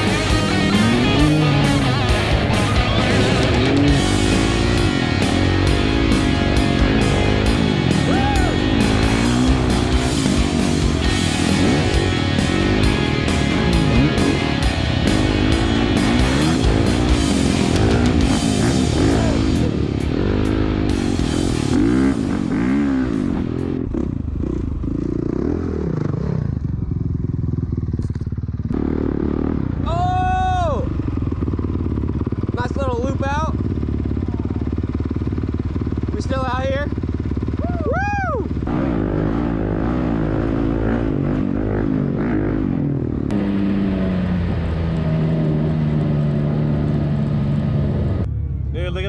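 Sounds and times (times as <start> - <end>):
dirt bike engine revving: 0.0 - 48.2.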